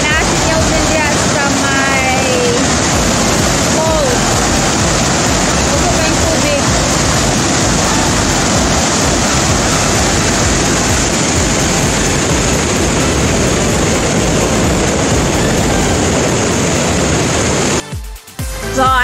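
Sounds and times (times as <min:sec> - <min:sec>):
waterfall rushing over rocks: 0:00.0 - 0:17.9.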